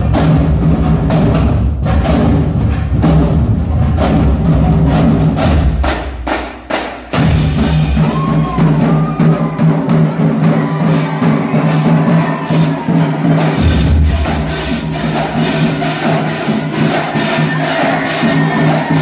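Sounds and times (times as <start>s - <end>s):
marching drumline playing: 0.0s - 19.0s.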